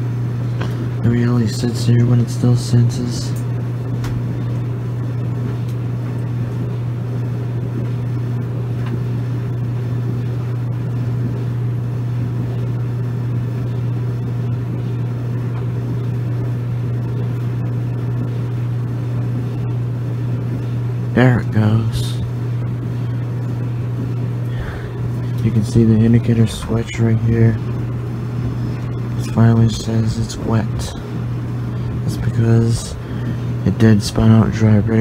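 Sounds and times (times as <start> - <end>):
clothes dryer tumbling: 0.0 - 35.0.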